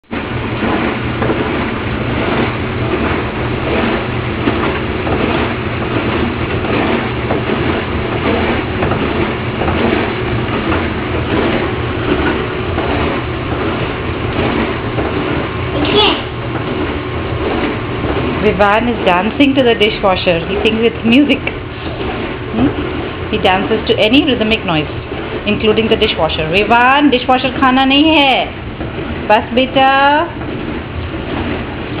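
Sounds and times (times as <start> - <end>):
dishwasher hum: 0.0 - 32.0
churning swish of water: 0.3 - 29.6, 30.3 - 32.0.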